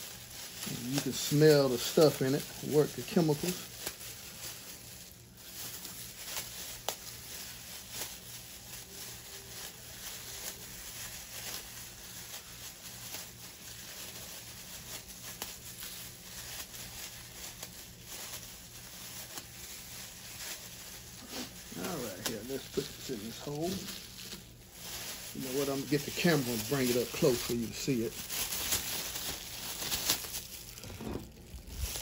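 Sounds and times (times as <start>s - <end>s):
plastic gloves crinkling: 0.0s - 32.0s.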